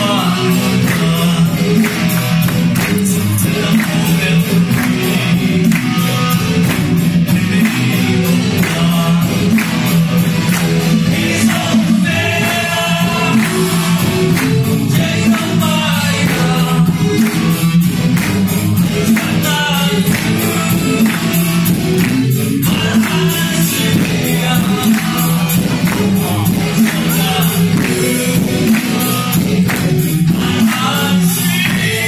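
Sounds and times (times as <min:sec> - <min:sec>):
male lead singer: 0:00.0 - 0:17.7, 0:18.8 - 0:32.0
live rock band playing: 0:00.0 - 0:32.0.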